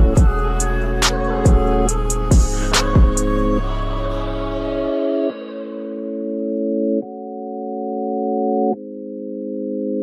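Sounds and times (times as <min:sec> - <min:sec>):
held keyboard chords: 0:00.0 - 0:10.0.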